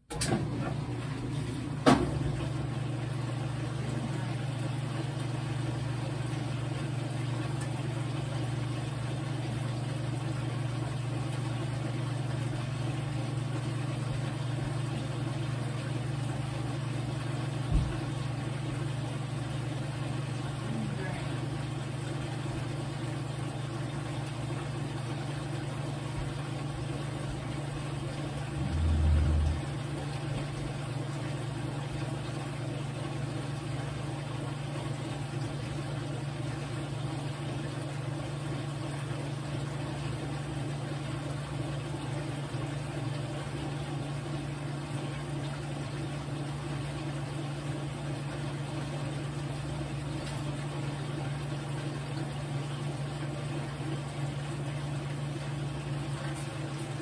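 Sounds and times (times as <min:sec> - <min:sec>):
washing machine humming: 0:00.0 - 0:57.0.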